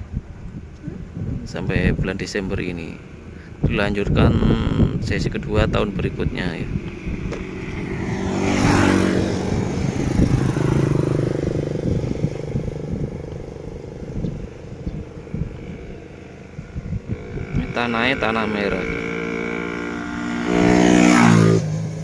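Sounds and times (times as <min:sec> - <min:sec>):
vehicle passing on road: 0:02.4 - 0:22.0.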